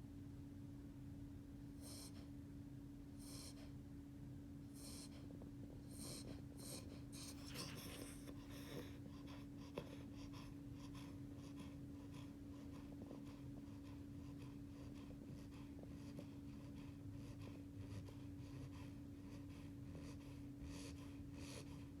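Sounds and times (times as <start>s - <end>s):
steady low hum: 0.8s - 22.0s
puppy snoring: 1.8s - 2.3s, 3.1s - 3.8s, 4.7s - 22.0s.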